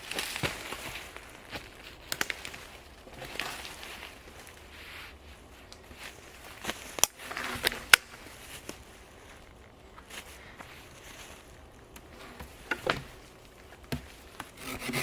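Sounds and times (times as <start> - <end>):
rustling of twigs: 0.0 - 15.0
twigs snapping: 0.0 - 15.0.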